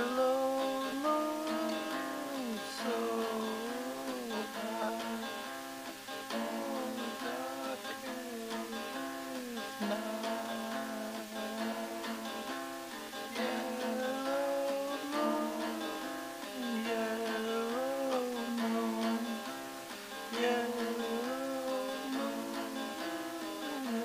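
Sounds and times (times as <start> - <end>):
acoustic guitar strumming: 0.0 - 24.0
sliding melody line: 0.0 - 24.0.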